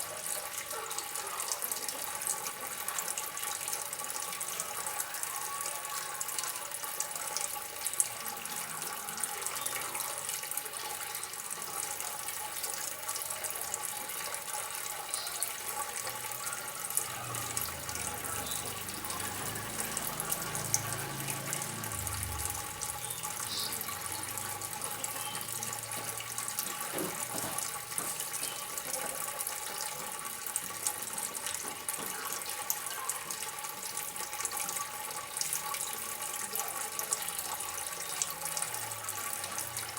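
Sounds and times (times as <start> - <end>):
water drips: 0.0 - 39.9
water trickling and splashing: 0.0 - 39.9.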